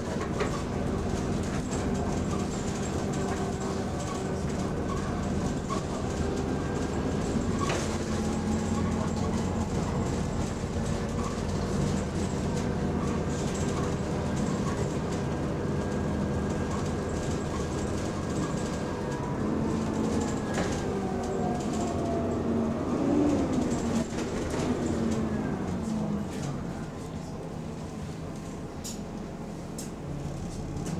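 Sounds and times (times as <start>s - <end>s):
bus engine drone: 0.0s - 30.9s.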